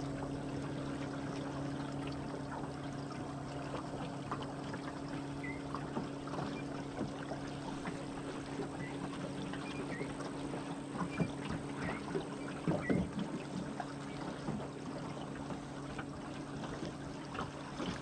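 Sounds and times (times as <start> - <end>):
water lapping against boat hull: 0.0 - 18.0.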